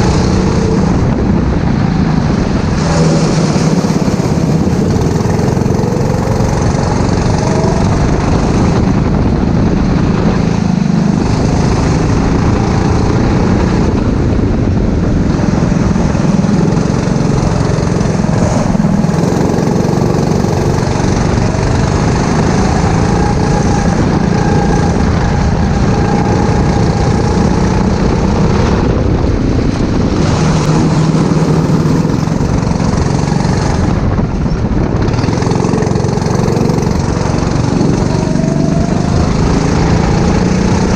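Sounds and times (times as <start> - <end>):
go-kart engine racing: 0.0 - 40.9.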